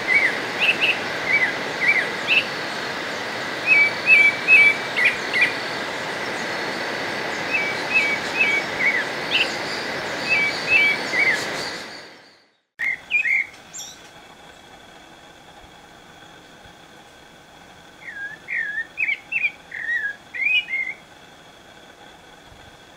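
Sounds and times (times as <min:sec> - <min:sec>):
background hiss: 0:00.0 - 0:22.9.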